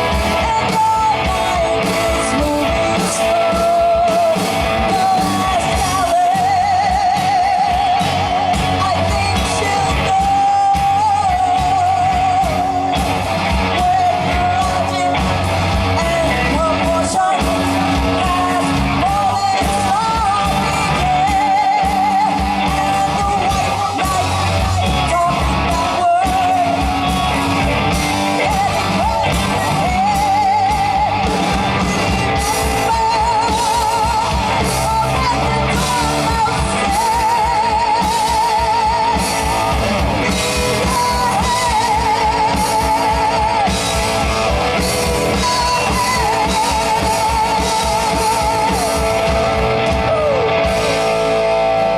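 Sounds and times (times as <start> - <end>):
live rock band performing: 0.0 - 51.9.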